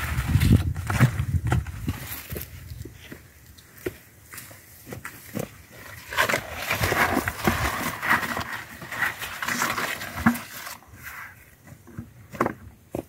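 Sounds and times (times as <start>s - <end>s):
manure rustling and scraping on soil: 0.0s - 13.0s.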